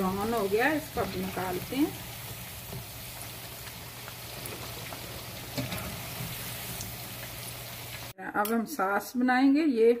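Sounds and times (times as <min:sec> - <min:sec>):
chicken sizzling in hot oil: 0:00.0 - 0:08.2.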